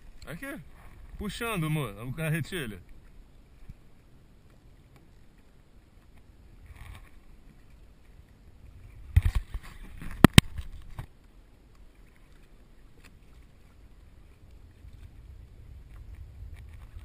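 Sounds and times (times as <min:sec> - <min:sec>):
water and wind noise: 0:00.0 - 0:17.0.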